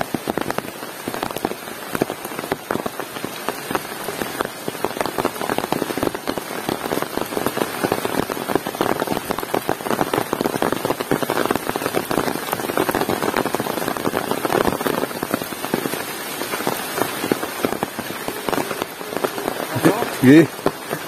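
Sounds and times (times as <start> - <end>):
heavy rain on hard surface: 0.0 - 21.0.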